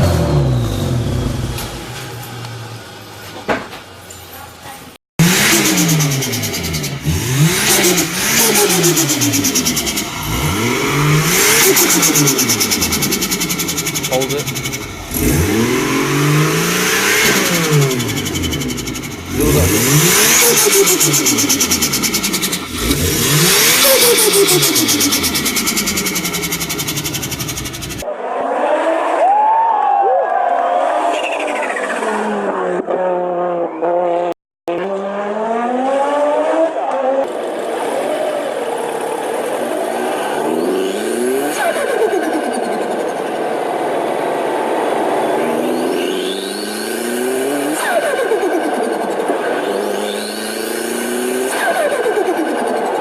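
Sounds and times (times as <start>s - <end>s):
car engine revving: 0.0s - 4.0s, 5.2s - 28.1s, 31.6s - 53.0s.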